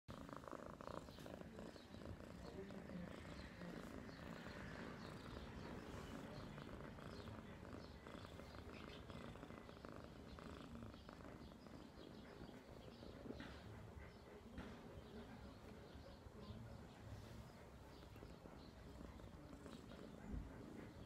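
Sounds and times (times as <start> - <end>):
kitten purring: 0.1 - 21.0.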